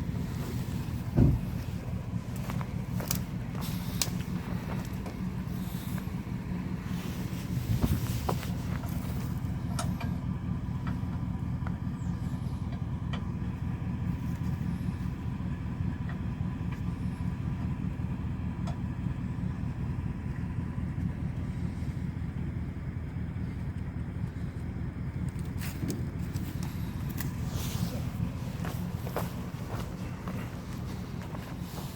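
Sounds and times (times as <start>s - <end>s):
engine running with low exhaust: 0.0s - 31.9s.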